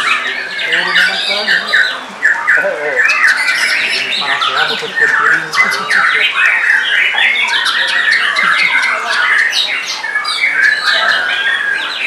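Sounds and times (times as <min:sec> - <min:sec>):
songbird singing trills and whistles: 0:00.0 - 0:12.0.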